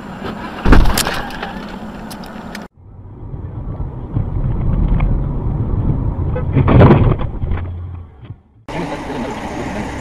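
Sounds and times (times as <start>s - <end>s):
low rumble of road and engine: 0.0s - 10.0s.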